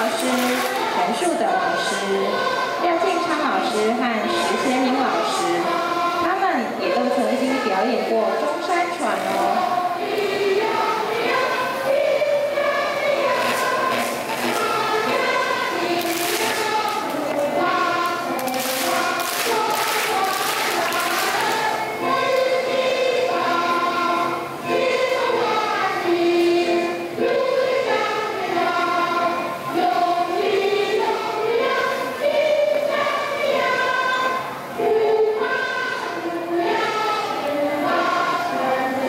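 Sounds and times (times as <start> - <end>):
choir singing slow melody: 0.0 - 39.0
hissy noisy wash: 0.0 - 39.0.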